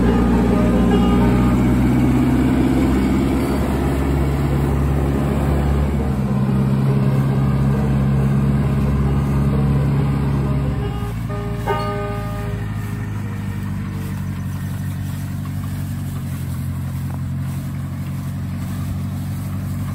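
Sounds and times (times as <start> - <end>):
combine engine running: 0.0 - 19.9.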